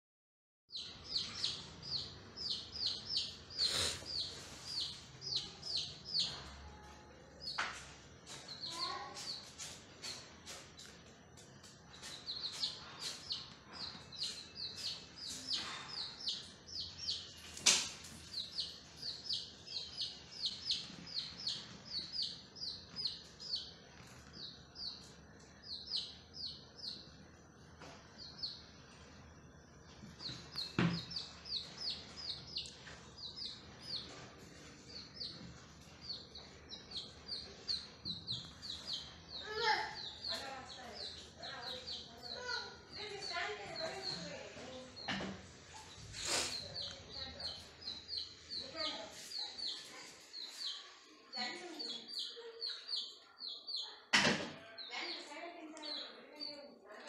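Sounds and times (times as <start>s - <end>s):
baby chicks peeping: 0.7s - 57.0s.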